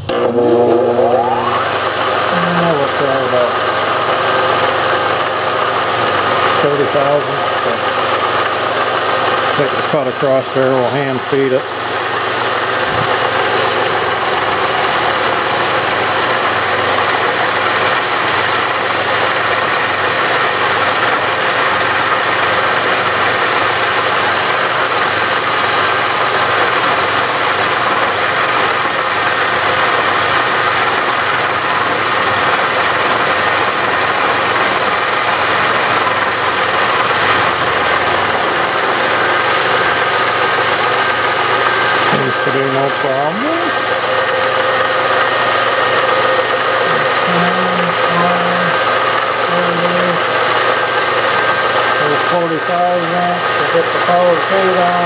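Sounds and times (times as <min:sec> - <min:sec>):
machine hum: 0:00.0 - 0:55.0
milling machine cutting metal: 0:00.0 - 0:55.0.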